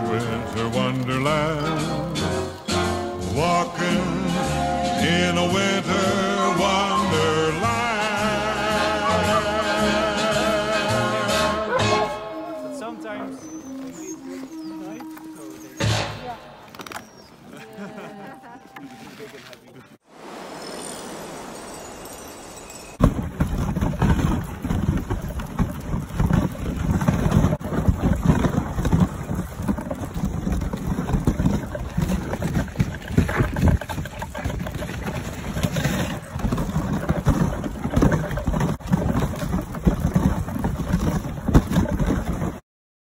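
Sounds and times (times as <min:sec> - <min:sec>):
sled runners rumbling on snow: 0:00.0 - 0:18.2, 0:21.6 - 0:42.6.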